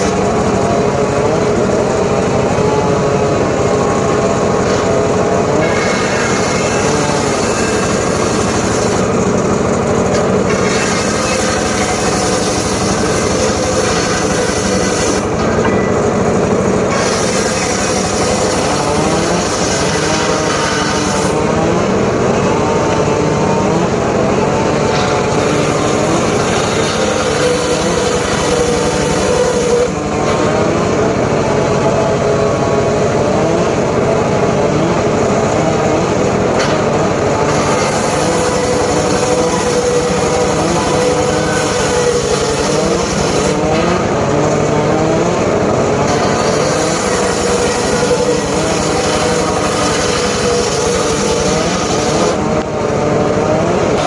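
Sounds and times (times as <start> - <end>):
circular saw cutting wood: 0.0 - 54.0.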